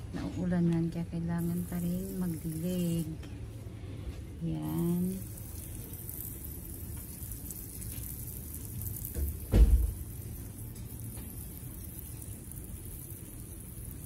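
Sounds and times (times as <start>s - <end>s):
water spraying hiss: 1.4s - 3.2s, 4.5s - 14.0s.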